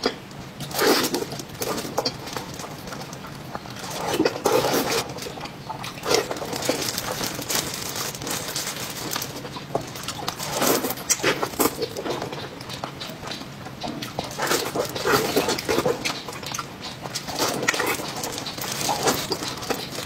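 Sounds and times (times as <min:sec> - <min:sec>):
crackly clicks: 0:00.0 - 0:20.0
wet chewing and lip smacks: 0:00.0 - 0:20.0.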